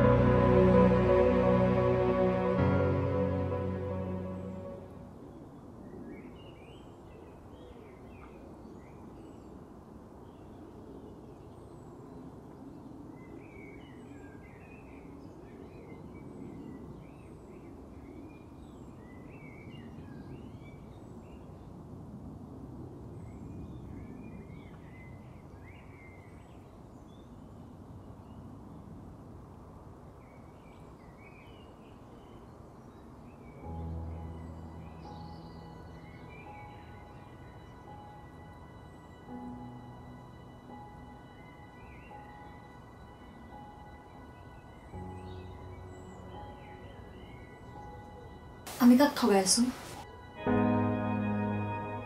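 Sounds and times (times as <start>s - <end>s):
steady low background noise: 0.0s - 52.0s.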